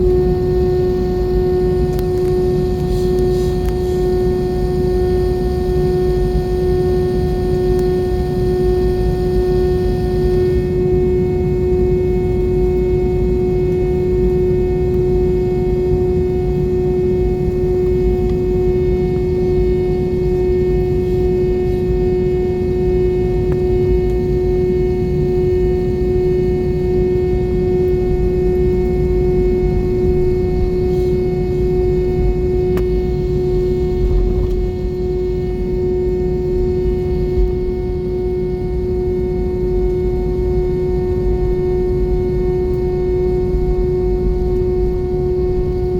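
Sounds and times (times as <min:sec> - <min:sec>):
airliner engines rumbling in cabin: 0:00.0 - 0:45.9.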